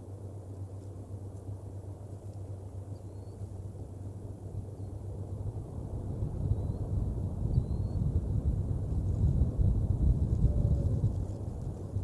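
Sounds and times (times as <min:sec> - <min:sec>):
faint hum: 0:00.0 - 0:12.0
steady low rumble: 0:00.0 - 0:12.0.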